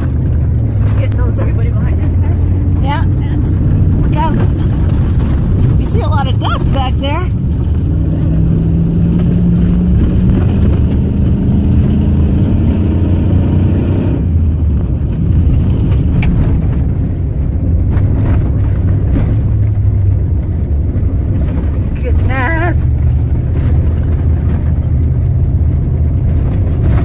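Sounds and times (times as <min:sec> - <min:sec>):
knocks and rattles: 0:00.0 - 0:12.9, 0:14.7 - 0:27.0
road and wind noise: 0:00.0 - 0:27.0
truck engine under load: 0:00.0 - 0:27.0.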